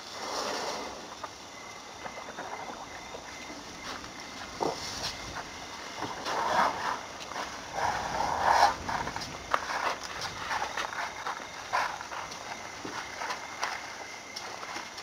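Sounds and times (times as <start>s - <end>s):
elephant moving through dry brush: 2.3s - 15.0s.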